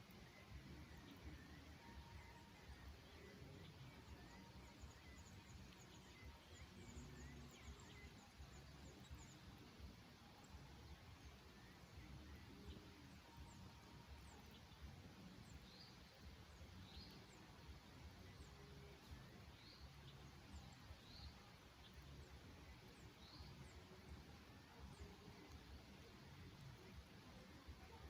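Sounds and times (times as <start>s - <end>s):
faint songbird chirps: 0.0s - 28.0s
low background noise: 0.0s - 28.0s.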